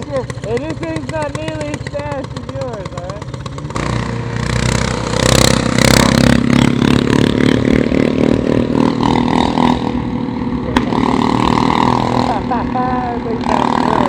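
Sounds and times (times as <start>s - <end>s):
small motorcycle engine: 0.0s - 14.0s.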